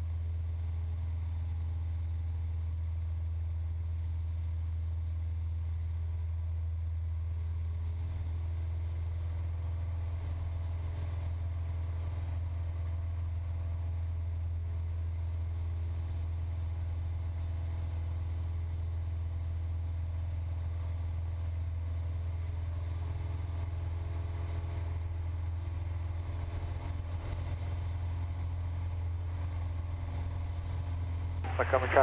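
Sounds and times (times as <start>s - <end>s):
propeller plane engine droning: 0.0s - 32.0s.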